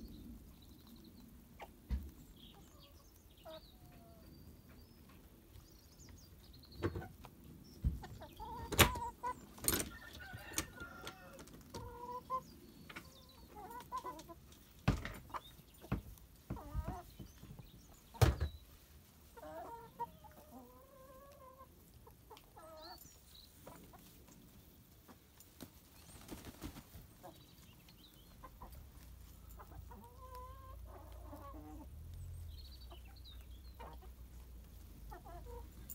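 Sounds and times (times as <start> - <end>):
chickens clucking: 0.2 - 35.9.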